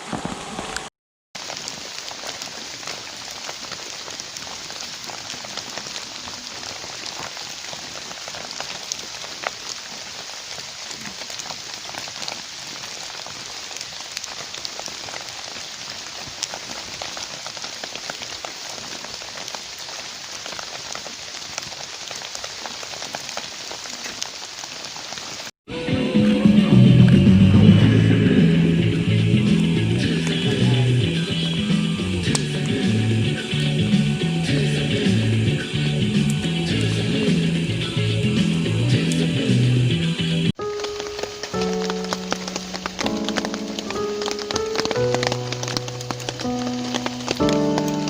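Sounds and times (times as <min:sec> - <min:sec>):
steady rain falling: 0:00.0 - 0:25.5, 0:26.7 - 0:48.0.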